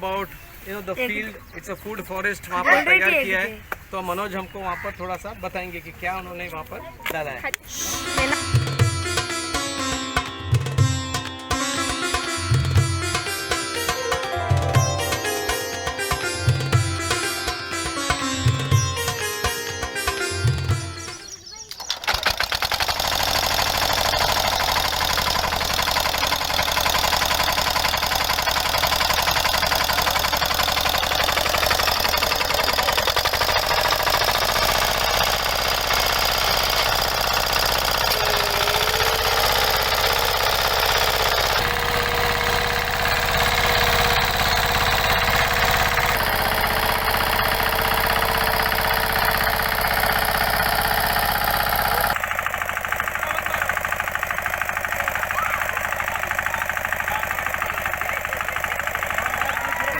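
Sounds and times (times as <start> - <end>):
engine chugging steadily: 7.9 - 21.2, 21.9 - 59.9.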